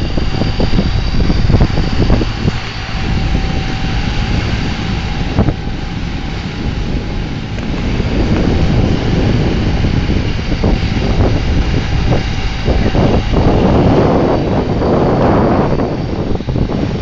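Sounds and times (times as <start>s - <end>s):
motor drone: 0.0s - 17.0s
wind buffeting microphone: 0.0s - 17.0s.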